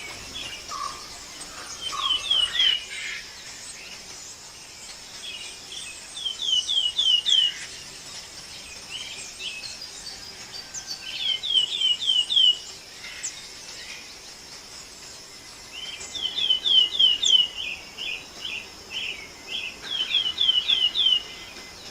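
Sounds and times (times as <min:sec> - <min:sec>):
high-pitched background hiss: 0:00.0 - 0:21.9
songbird singing whistled notes: 0:00.0 - 0:21.9.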